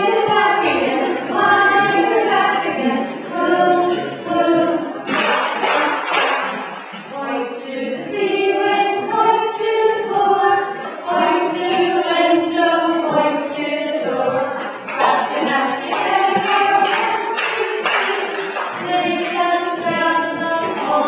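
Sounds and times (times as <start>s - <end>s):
choir singing: 0.0s - 5.9s, 7.2s - 21.0s.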